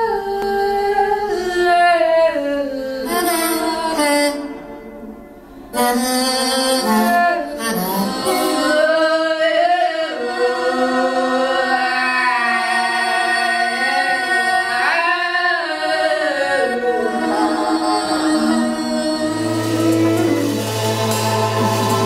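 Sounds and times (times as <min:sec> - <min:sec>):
woman singing wordless notes: 0:00.0 - 0:22.0.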